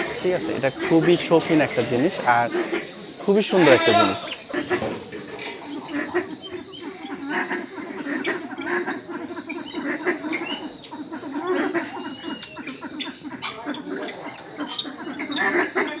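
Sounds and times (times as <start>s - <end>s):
birds chirping and squeaking: 0.0s - 16.0s
low bird chatter: 0.0s - 16.0s.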